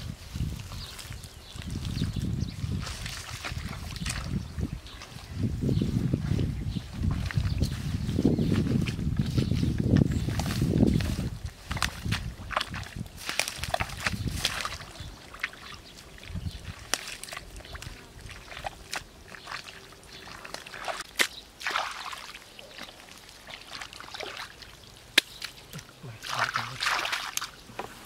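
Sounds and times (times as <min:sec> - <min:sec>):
squelching and sloshing mud: 0:00.2 - 0:05.4, 0:06.9 - 0:27.7.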